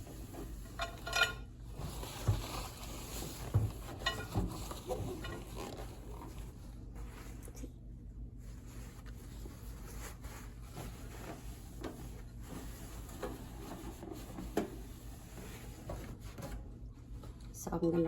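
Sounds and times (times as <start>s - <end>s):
rubbing at a microwave: 0.0s - 17.4s.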